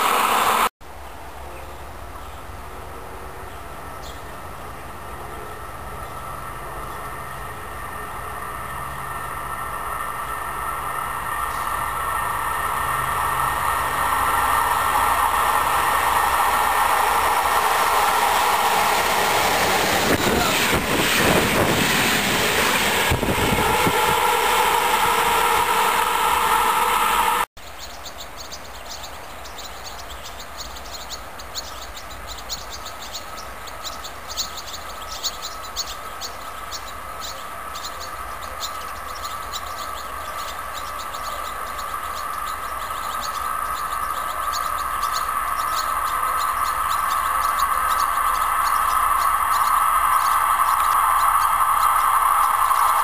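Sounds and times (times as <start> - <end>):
distant train approaching: 0.0 - 53.0
electric train passing: 0.0 - 53.0
rapid chirping: 10.2 - 53.0.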